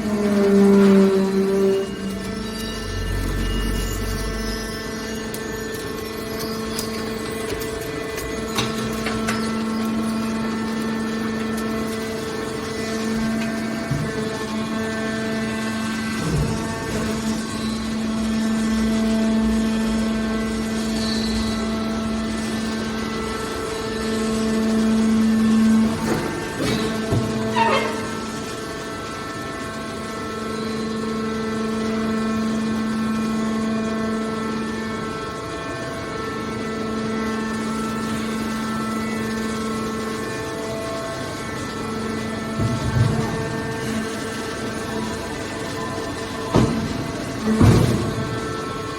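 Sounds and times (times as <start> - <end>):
baler mechanical drone: 0.0 - 48.9
hydraulic power unit humming: 0.0 - 48.9.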